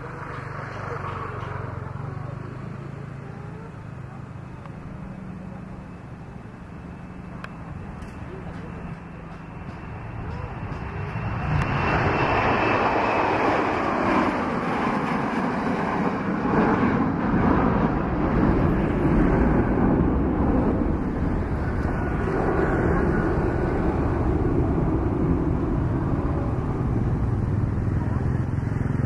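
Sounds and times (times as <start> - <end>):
jet engines roaring at takeoff: 0.0 - 29.0.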